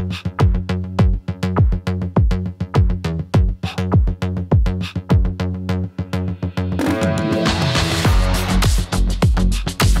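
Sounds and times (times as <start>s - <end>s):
electronic music with drum beat: 0.0s - 10.0s.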